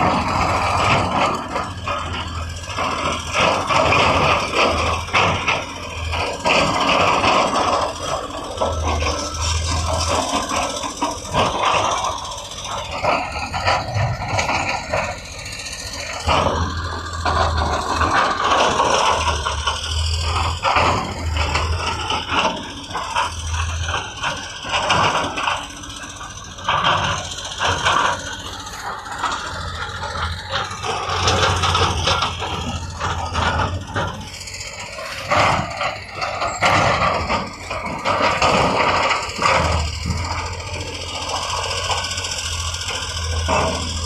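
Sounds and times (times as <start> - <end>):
low engine hum: 0.0 - 44.0
machinery rattling and scraping: 0.0 - 44.0.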